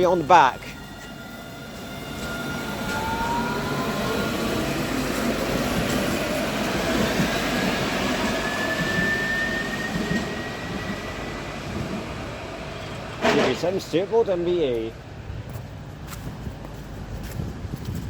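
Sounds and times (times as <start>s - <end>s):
passenger train rumbling past: 0.0s - 18.0s.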